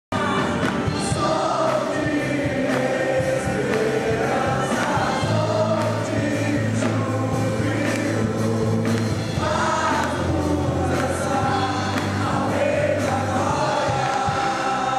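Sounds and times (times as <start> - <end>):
choir singing worship song: 0.1 - 14.9.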